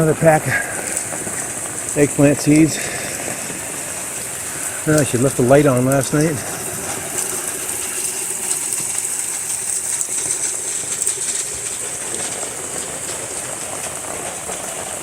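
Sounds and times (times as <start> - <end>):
rain falling on plants: 0.0 - 15.0.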